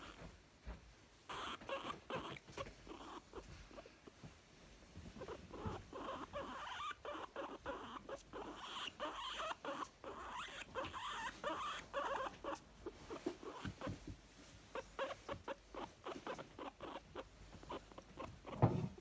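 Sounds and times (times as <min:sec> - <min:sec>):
guinea pig short calls: 0:01.3 - 0:03.9, 0:05.2 - 0:14.0, 0:14.7 - 0:18.7.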